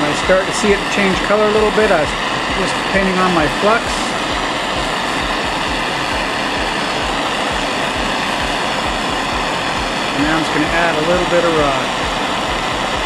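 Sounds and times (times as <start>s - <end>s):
torch flame roaring: 0.0s - 13.0s.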